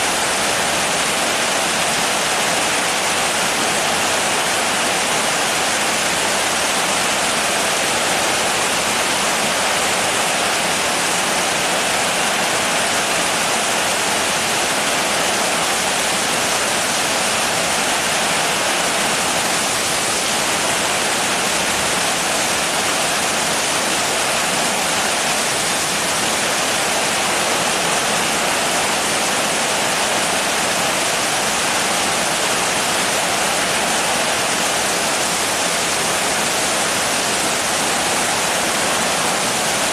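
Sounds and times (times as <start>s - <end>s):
dense rain hissing: 0.0s - 39.9s.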